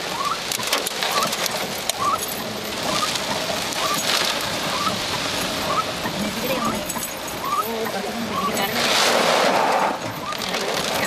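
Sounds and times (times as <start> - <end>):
heavy rain on a vehicle: 0.0 - 11.0.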